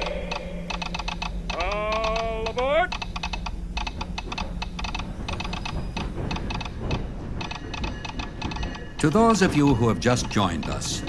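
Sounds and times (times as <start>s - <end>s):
steady low rumble: 0.0s - 11.0s
telegraph sounder clicking: 0.0s - 11.0s.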